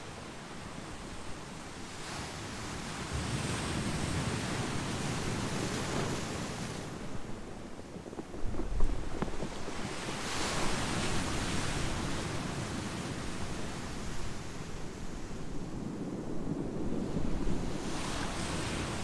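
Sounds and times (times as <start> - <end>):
wind rumbling on microphone: 0.0 - 19.0
surf breaking on pebbles: 1.3 - 19.0.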